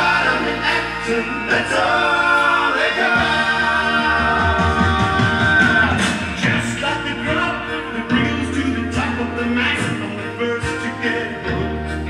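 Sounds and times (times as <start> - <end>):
song with singing and instruments: 0.0 - 12.0.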